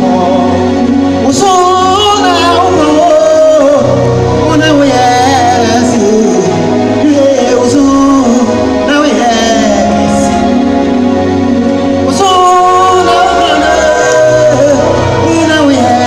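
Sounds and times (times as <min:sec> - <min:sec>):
sustained keyboard chords: 0:00.0 - 0:16.0
voices singing with vibrato: 0:00.0 - 0:16.0.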